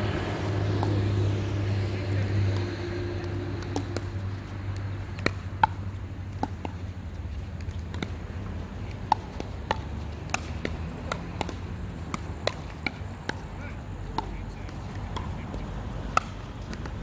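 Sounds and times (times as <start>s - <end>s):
paddles hitting plastic ball: 0.4s - 1.1s, 2.1s - 17.0s.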